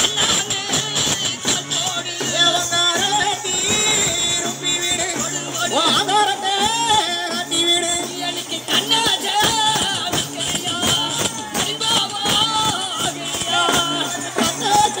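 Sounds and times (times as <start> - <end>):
fast drum beat: 0.0 - 15.0
festival dance music: 0.0 - 15.0.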